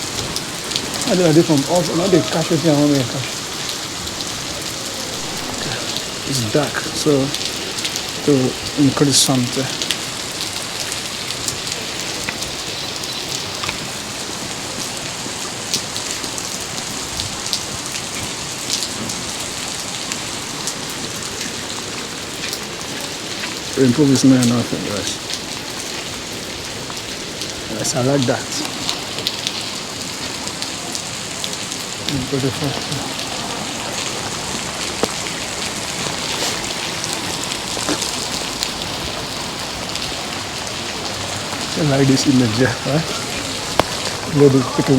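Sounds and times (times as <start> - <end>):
heavy rain falling: 0.0 - 44.9
sharp raindrop hits: 0.0 - 44.9.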